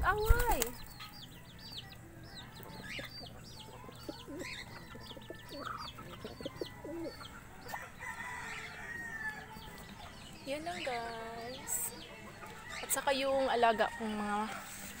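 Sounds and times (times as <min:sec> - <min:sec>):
chicks peeping: 0:00.0 - 0:14.6
chickens clucking: 0:00.0 - 0:15.0.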